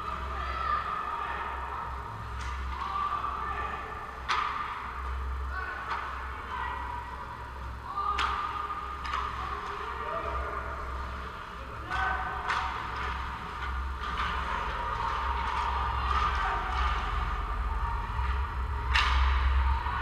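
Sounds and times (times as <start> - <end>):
low rink hum: 0.0 - 20.0
hockey sticks and puck clacking: 2.0 - 6.9, 7.5 - 20.0.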